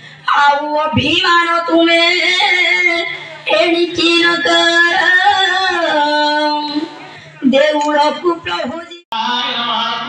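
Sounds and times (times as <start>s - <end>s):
woman singing devotional song: 0.2s - 9.0s.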